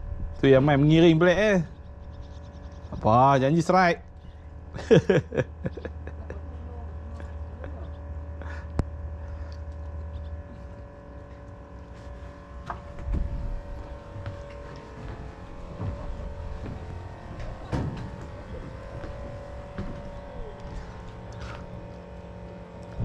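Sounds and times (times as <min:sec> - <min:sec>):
engine hum: 0:00.0 - 0:23.0
low rumble: 0:00.0 - 0:23.0.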